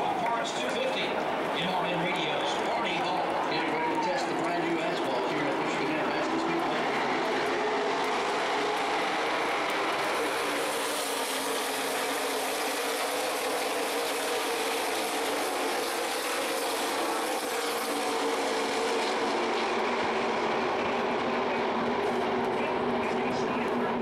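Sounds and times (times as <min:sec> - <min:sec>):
stock car engines droning: 0:00.0 - 0:24.0.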